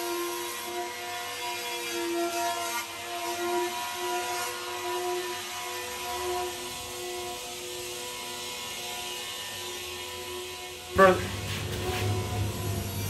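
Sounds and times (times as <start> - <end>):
electric hand planer motor whine: 0.0 - 13.0.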